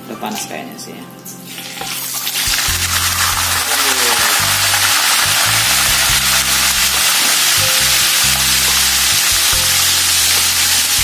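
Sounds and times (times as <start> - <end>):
fish deep-frying in oil: 1.5 - 11.0
background music with bass: 2.0 - 11.0.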